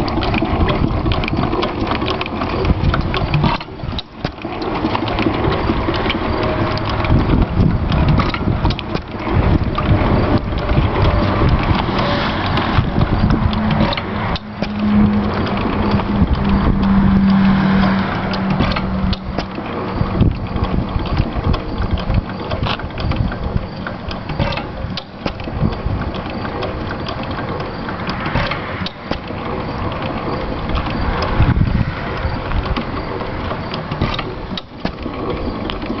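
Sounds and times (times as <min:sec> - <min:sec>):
hit-and-miss engine clattering: 0:00.0 - 0:36.0.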